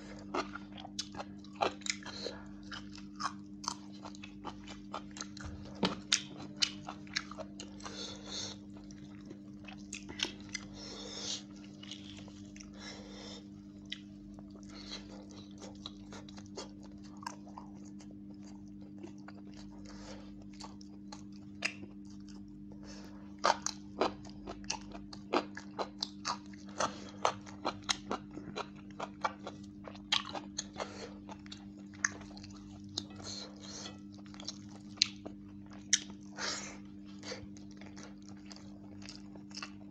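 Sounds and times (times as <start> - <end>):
low steady hum: 0.0 - 39.9
wet chewing and mouth clicks: 0.1 - 12.8, 13.8 - 22.8, 23.4 - 39.9.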